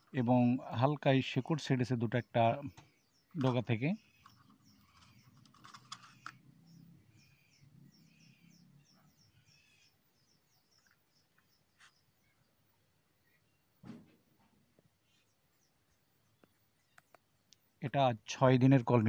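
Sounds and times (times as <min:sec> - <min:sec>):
faint bird chirps: 0:00.0 - 0:18.7.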